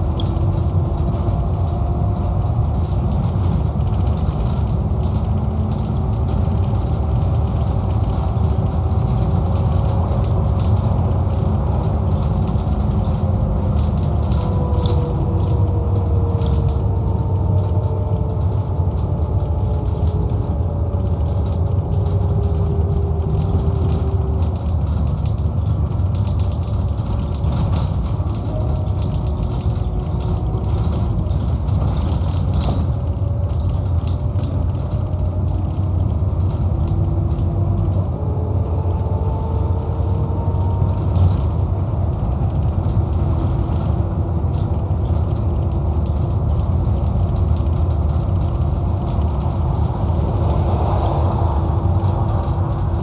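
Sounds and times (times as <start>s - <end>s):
diesel engine low drone: 0.0s - 53.0s
interior rattles and creaks: 0.0s - 53.0s.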